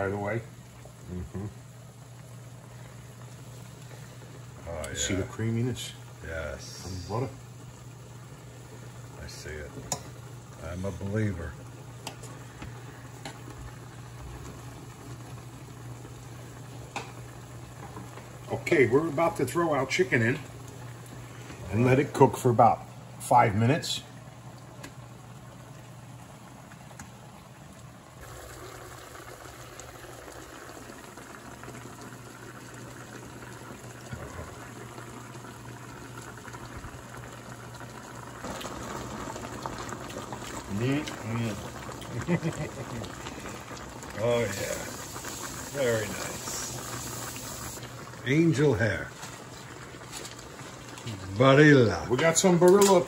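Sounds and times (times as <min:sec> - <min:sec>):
sauce bubbling in a pan: 0:00.0 - 0:53.0.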